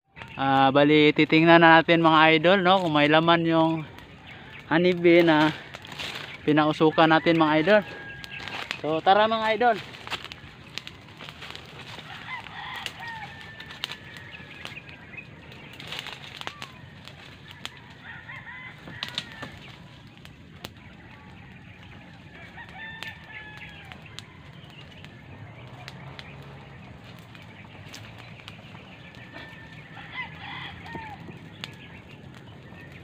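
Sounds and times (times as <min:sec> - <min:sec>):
birds chirping and clucking: 0:00.1 - 0:33.0
crackles and snaps: 0:00.1 - 0:33.0.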